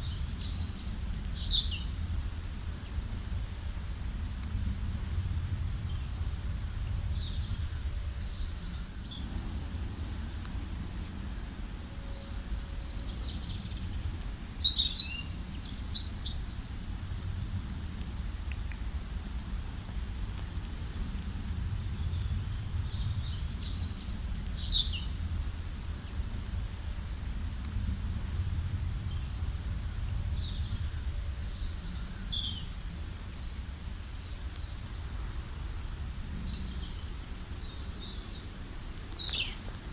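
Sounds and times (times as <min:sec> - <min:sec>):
songbirds chirping and trilling: 0:00.0 - 0:04.6, 0:05.4 - 0:17.3, 0:20.4 - 0:39.9
low background rumble: 0:00.0 - 0:39.9.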